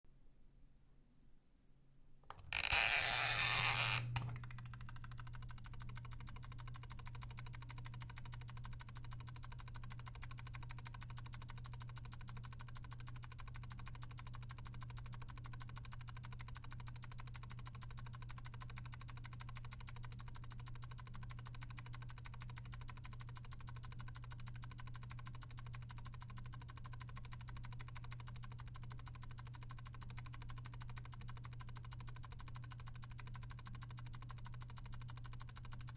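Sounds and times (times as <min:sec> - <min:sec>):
timer dial mechanical noise: 0:02.3 - 0:35.9.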